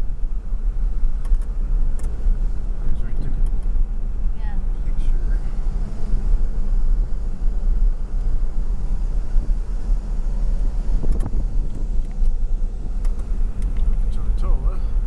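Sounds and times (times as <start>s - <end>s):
car engine and tyres rumble: 0.0s - 15.0s.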